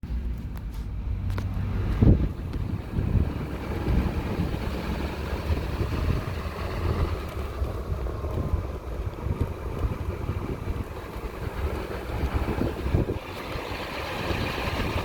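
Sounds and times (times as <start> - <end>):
pickup truck engine rumbling: 0.0 - 15.0.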